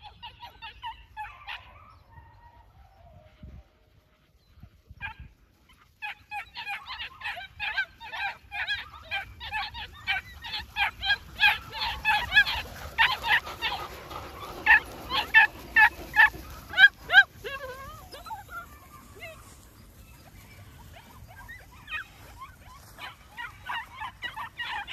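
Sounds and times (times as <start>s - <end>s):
puppies yapping: 0.0s - 2.6s, 5.0s - 24.9s.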